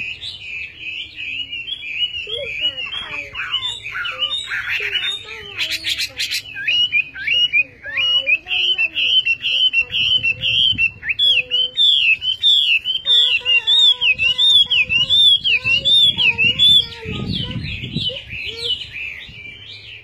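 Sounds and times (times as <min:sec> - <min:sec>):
bird singing sliding whistled notes: 0:00.0 - 0:05.3, 0:05.9 - 0:20.0.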